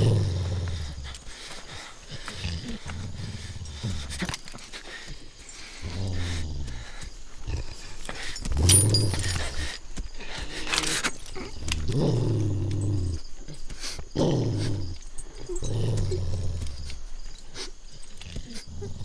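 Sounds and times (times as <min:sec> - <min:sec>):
dog growling low: 0:00.0 - 0:04.4, 0:05.7 - 0:17.0, 0:17.9 - 0:19.0.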